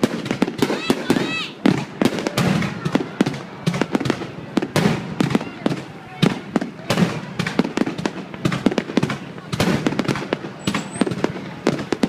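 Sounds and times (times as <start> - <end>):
fireworks exploding: 0.0 - 12.0
people's voices: 0.0 - 12.0.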